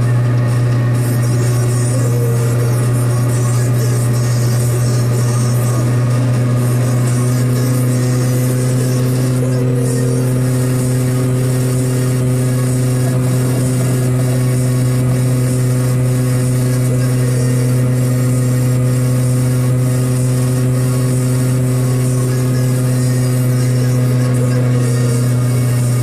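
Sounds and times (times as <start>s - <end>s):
small two-stroke engine droning: 0.0s - 26.0s.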